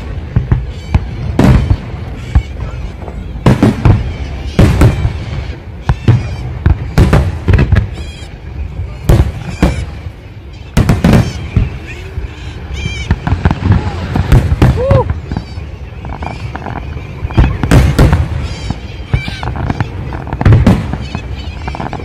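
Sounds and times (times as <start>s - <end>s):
fireworks bangs and booms: 0.0s - 22.0s.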